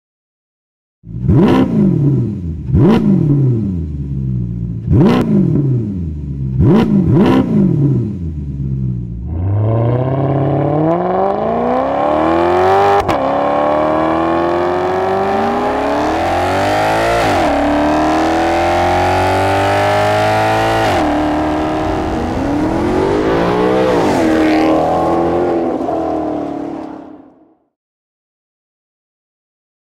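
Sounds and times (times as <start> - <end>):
car engine accelerating through gears: 1.2 - 3.9, 4.8 - 27.4.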